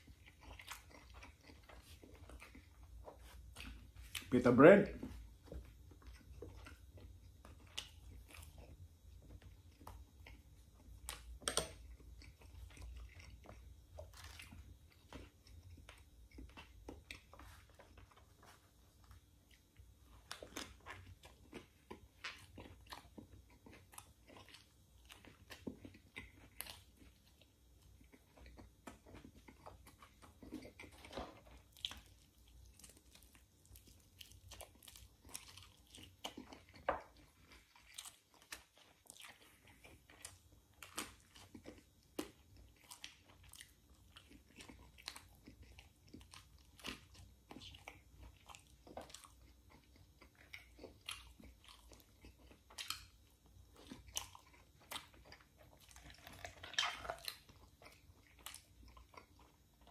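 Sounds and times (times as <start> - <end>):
chewing and biting food: 0.0 - 59.9.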